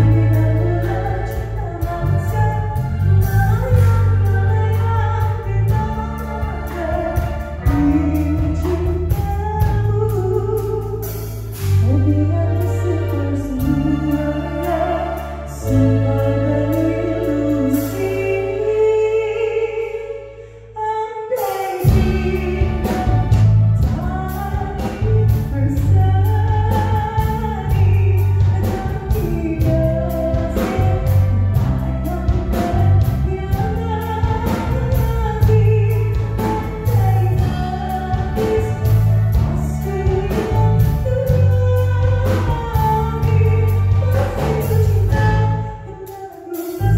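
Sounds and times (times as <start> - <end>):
rock band playing: 0.0 - 18.2, 21.4 - 45.8.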